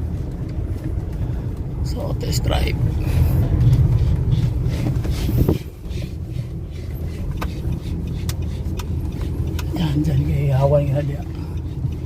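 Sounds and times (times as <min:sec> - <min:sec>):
diesel engine and road rumble: 0:00.0 - 0:12.0.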